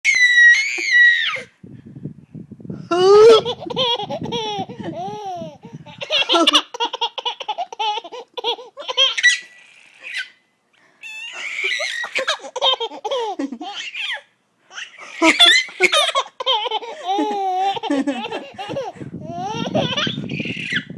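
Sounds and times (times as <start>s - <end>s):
baby laughing: 3.0s - 10.4s, 11.0s - 20.9s.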